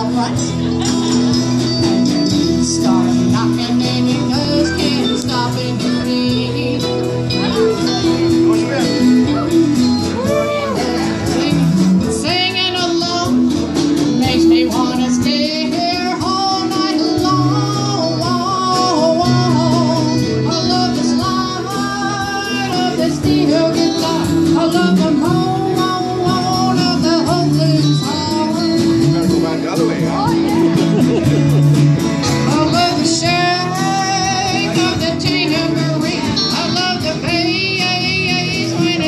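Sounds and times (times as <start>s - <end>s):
person singing with vibrato: 0.0s - 29.5s, 30.2s - 39.0s
bass line: 0.0s - 39.0s
strummed acoustic guitar: 0.0s - 39.0s.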